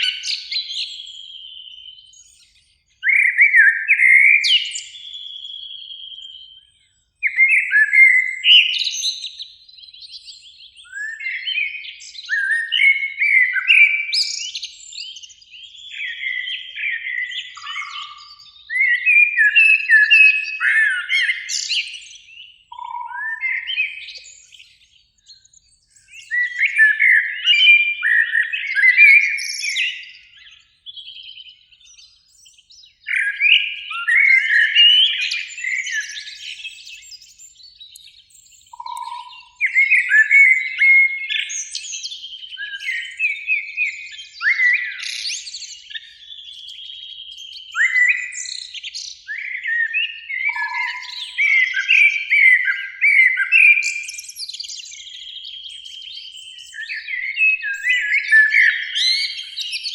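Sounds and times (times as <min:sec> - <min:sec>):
blackbirds singing: 0:00.0 - 0:59.9.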